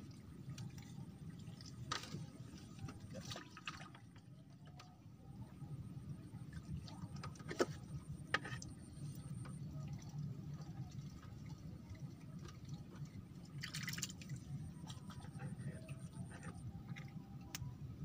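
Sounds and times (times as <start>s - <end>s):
water lapping against raft: 0.0s - 5.2s, 6.0s - 17.5s.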